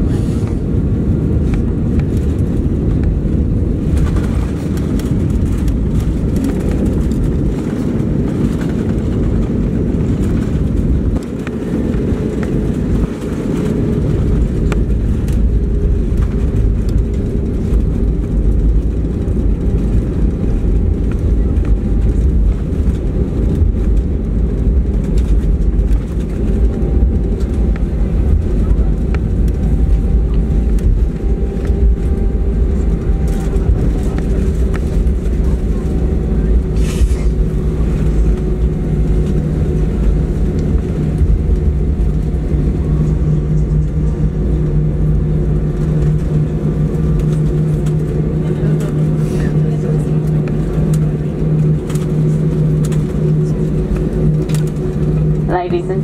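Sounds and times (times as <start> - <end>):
engines and wheels rumbling: 0.0 - 56.0.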